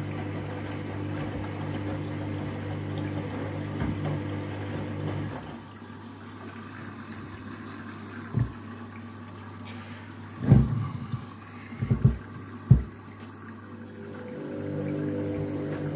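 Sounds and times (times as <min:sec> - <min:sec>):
washing machine humming: 0:00.0 - 0:15.9
water noise: 0:00.0 - 0:15.9.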